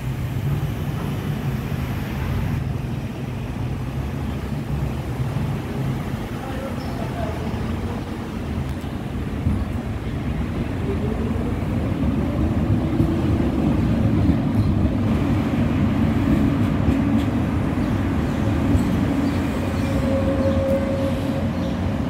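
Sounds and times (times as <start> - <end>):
tram wheels rumbling on rails: 0.0 - 22.0.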